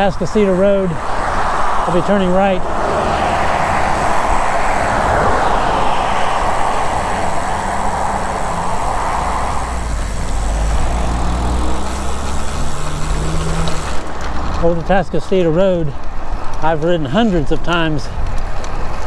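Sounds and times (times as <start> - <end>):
low engine rumble: 0.0 - 16.0
passing vehicle tyre noise: 0.0 - 19.0.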